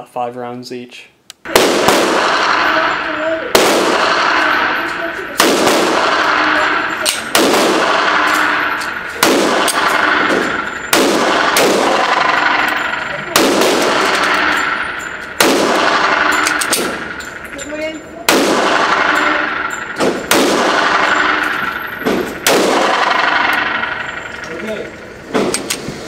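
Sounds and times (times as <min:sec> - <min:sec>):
pistol shots with ringing echo: 0:01.5 - 0:25.8.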